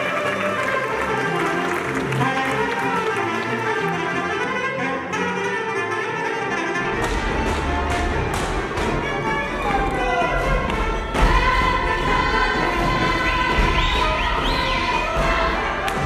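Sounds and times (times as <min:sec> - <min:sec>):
clarinet playing folk tune: 0:00.0 - 0:16.0
violins: 0:00.0 - 0:16.0.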